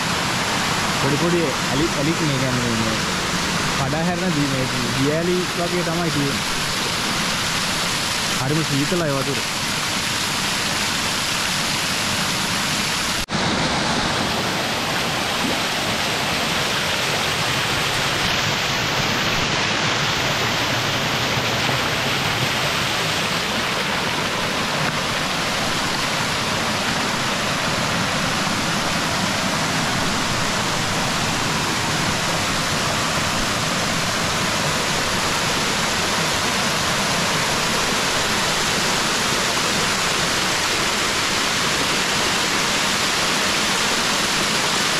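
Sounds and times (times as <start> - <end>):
waterfall rushing over rocks: 0.0 - 44.9.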